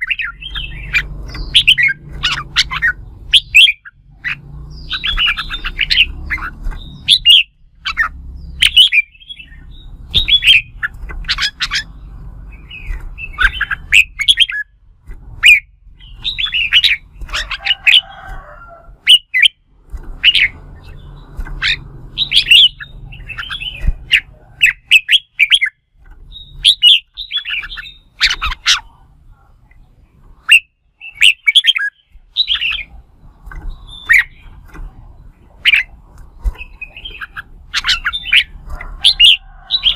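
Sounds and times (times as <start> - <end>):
birds singing chattering whistles: 0.0 - 14.8, 15.4 - 39.9.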